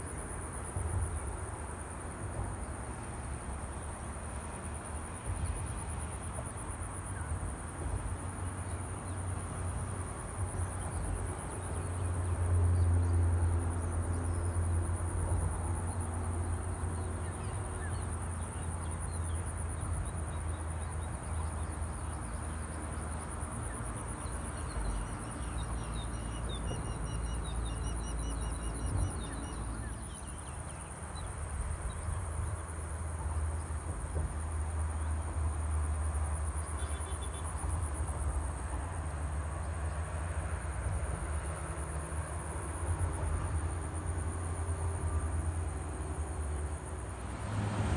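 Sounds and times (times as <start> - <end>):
high-pitched insect trill: 2.9 - 47.6.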